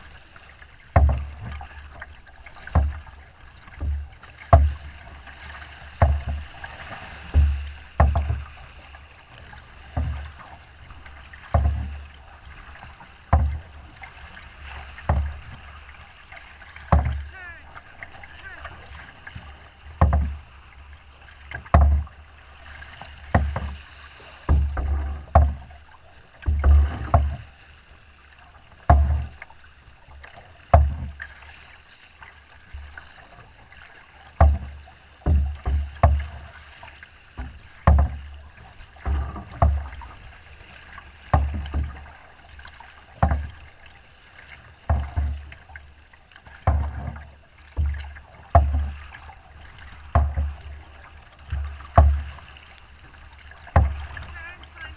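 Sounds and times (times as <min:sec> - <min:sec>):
rough water washing: 0:00.0 - 0:54.9
waves slapping boat hull: 0:00.0 - 0:54.9.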